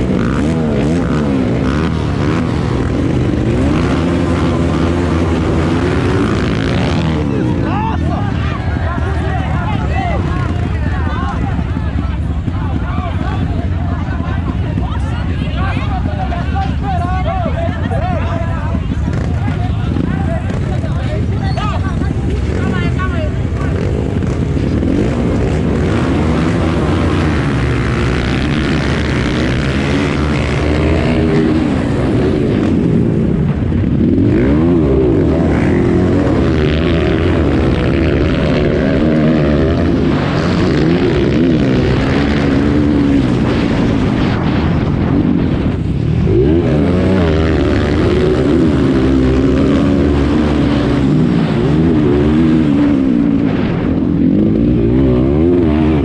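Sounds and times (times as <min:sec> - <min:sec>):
dirt bike engine revving: 0:00.0 - 0:16.8, 0:17.4 - 0:56.0
steady rushing noise: 0:00.0 - 0:56.0.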